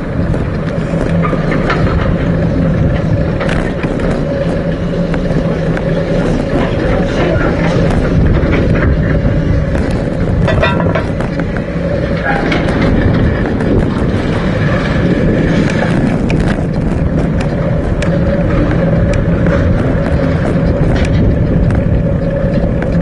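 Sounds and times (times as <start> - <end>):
bicycle clicks and rattles: 0.0 - 23.0
bicycle tyres rumbling: 0.0 - 23.0.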